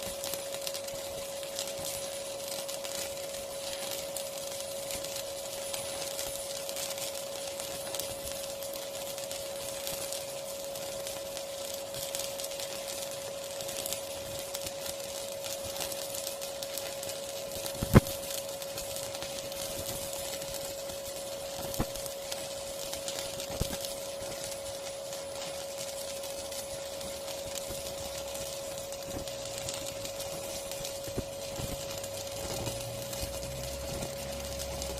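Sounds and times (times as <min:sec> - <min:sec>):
welding machine whine and hiss: 0:00.0 - 0:34.9.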